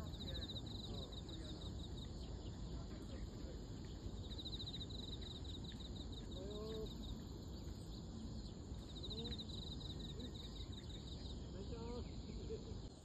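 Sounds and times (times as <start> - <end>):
bird singing a rapid trill: 0.0 - 13.0.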